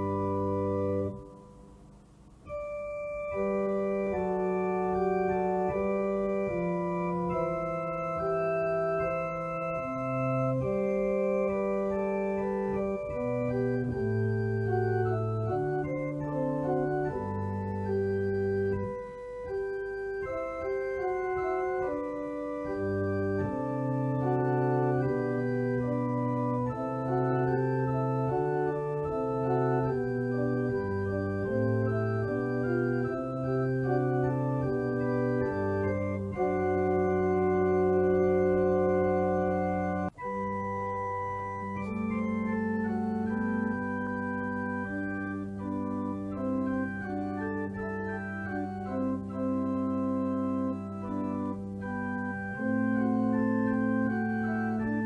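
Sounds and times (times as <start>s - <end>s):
slow organ music: 0.0s - 55.0s.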